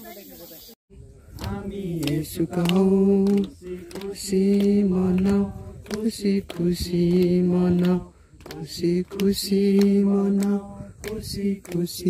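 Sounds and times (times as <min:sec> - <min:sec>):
man singing unaccompanied: 0:01.4 - 0:12.0.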